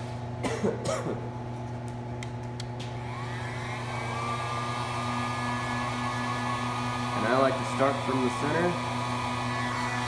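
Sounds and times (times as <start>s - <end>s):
heat gun fan whine: 0.0s - 10.0s.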